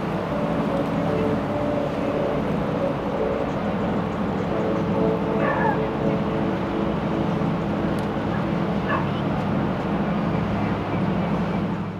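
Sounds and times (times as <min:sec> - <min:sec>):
boat engine humming: 0:00.0 - 0:11.9.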